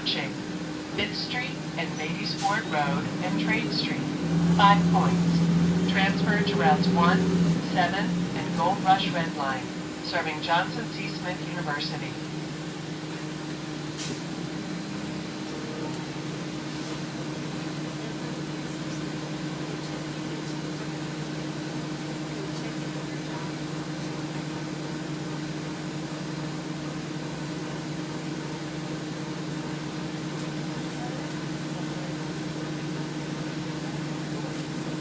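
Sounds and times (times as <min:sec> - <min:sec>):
bus engine drone: 0:00.0 - 0:35.0
ventilation fans humming: 0:00.0 - 0:35.0.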